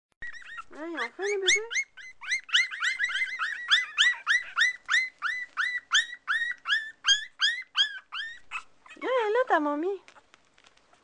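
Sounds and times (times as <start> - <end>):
puppies squealing: 0.2 - 9.2.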